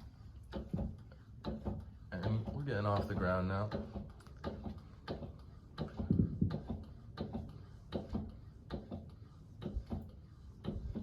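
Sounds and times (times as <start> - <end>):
pallet jack pump clicking: 0.5 - 11.0.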